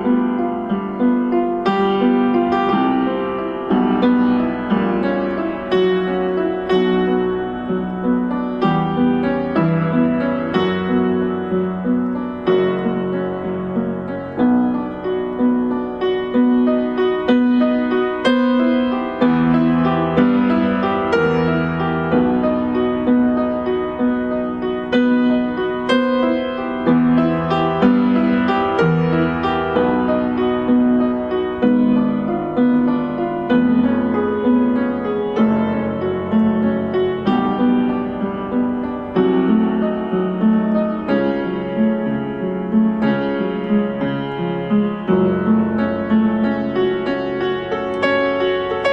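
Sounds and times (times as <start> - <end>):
gentle piano melody: 0.0 - 48.9.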